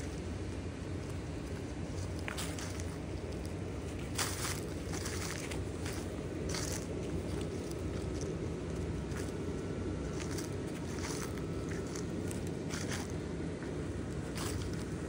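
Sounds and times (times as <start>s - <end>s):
electric blower fans humming: 0.0s - 15.0s
footsteps crunching on grass and leaves: 0.0s - 15.0s.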